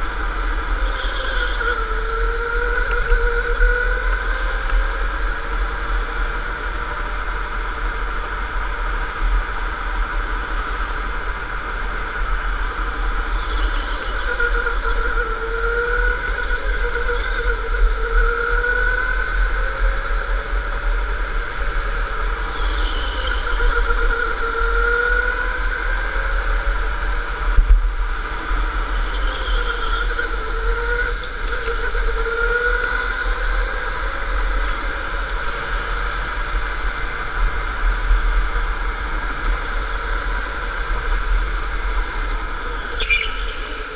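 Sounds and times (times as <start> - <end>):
electric go-kart motor whining: 0.0 - 43.9.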